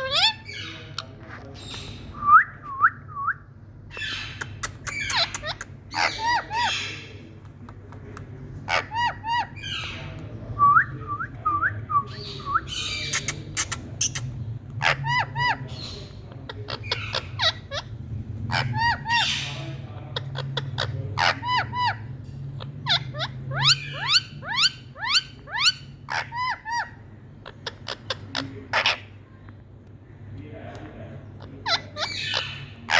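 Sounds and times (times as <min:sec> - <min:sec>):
parrot chirping calls: 0:00.0 - 0:02.6, 0:03.6 - 0:07.3, 0:08.2 - 0:10.2, 0:12.1 - 0:29.9, 0:31.2 - 0:32.9
steady low hum: 0:00.0 - 0:32.9.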